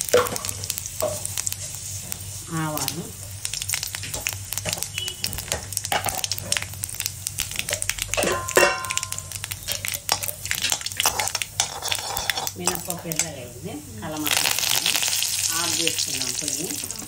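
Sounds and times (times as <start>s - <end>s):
spices sizzling in hot oil: 0.0s - 17.0s.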